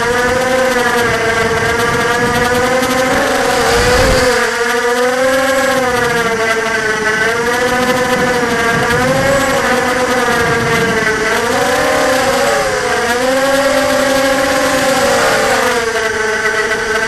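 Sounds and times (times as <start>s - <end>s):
quadcopter motors buzzing whine: 0.0s - 17.0s.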